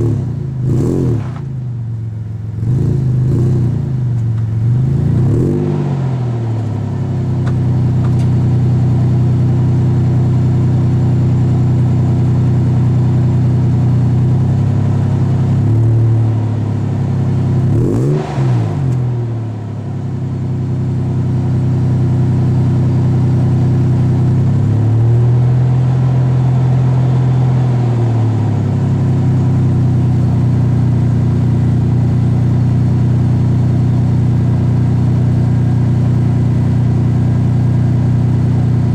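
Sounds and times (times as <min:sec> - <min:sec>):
engine exhaust idling and revving: 0:00.0 - 0:38.9.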